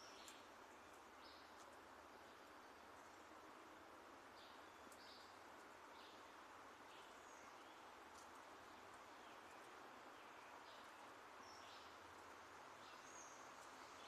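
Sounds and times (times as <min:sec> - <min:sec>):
small birds chirping: 0:00.0 - 0:14.0
steady background hiss: 0:00.0 - 0:14.0.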